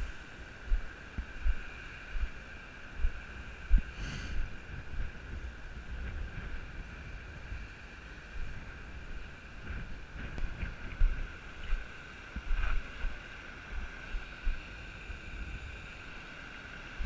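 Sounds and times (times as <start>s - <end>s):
wind buffeting microphone: 0.0s - 16.2s
high-pitched drone and hiss: 0.0s - 17.0s.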